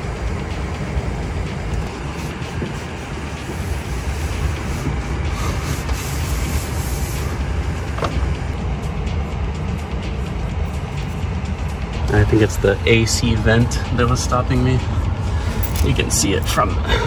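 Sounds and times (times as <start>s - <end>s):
background music with heavy bass: 0.0s - 17.0s.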